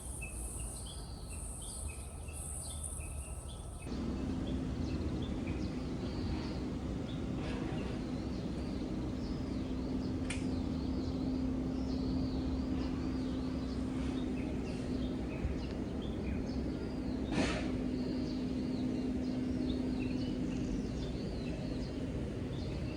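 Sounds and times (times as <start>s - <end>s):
small birds chirping: 0.0s - 22.9s
low hum and rumble: 3.8s - 22.9s.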